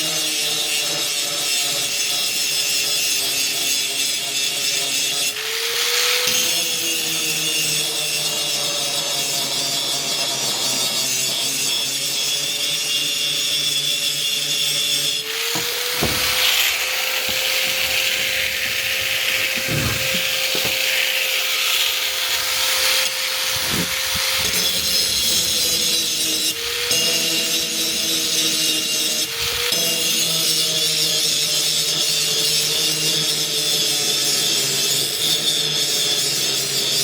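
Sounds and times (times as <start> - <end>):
grinder motor running: 0.0 - 31.6
blade grinding on wheel: 0.0 - 37.0.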